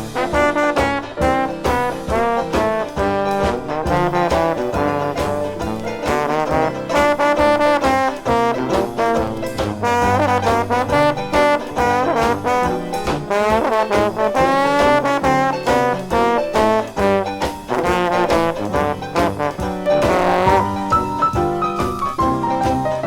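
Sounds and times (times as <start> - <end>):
dixieland jazz band playing: 0.0 - 23.0.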